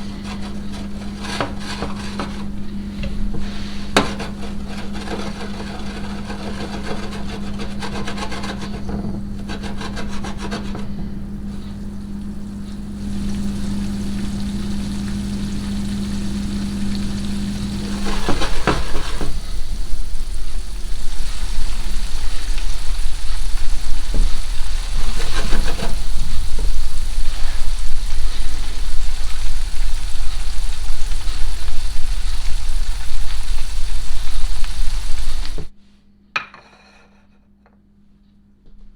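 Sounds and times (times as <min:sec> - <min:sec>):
utensil scraping in a pan: 0:00.0 - 0:11.9, 0:12.5 - 0:35.7
steady low hum: 0:00.0 - 0:36.3.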